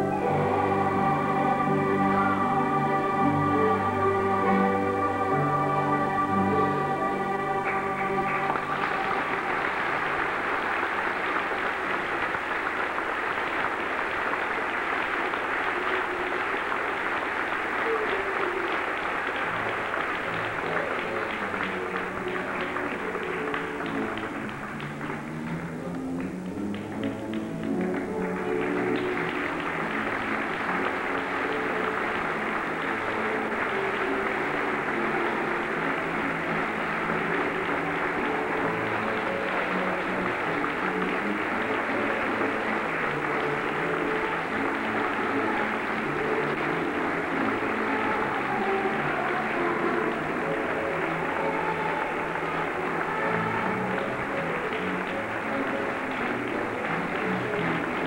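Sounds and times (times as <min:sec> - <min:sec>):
instrumental music: 0:00.0 - 0:12.2, 0:17.1 - 0:58.0
audience applauding: 0:00.0 - 0:58.0.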